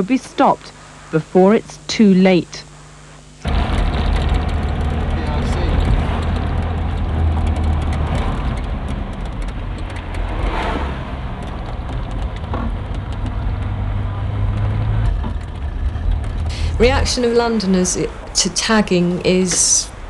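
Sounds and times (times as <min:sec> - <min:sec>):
car engine and road rumble: 0:03.2 - 0:20.0.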